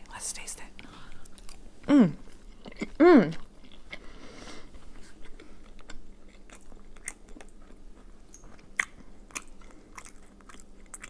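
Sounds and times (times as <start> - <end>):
person chewing food: 0.8 - 11.0.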